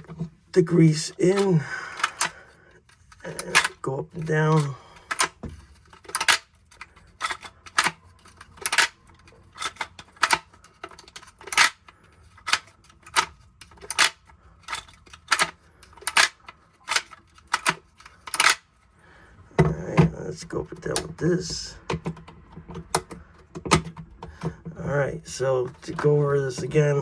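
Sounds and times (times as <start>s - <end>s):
plastic parts clacking: 0.0s - 27.0s.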